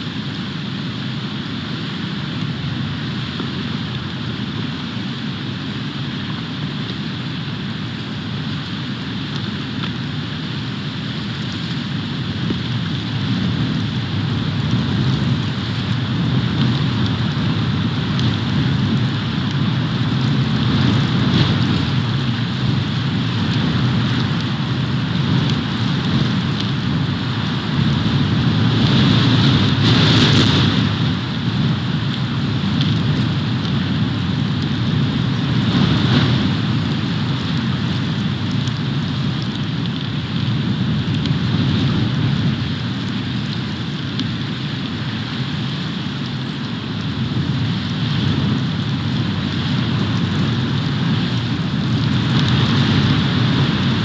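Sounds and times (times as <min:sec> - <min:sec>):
storm wind blowing on microphone: 0:00.0 - 0:54.0.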